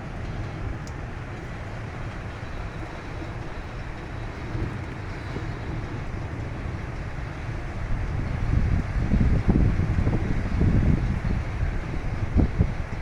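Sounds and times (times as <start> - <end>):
rain hissing: 0.0 - 12.9
wind buffeting microphone: 0.0 - 13.0.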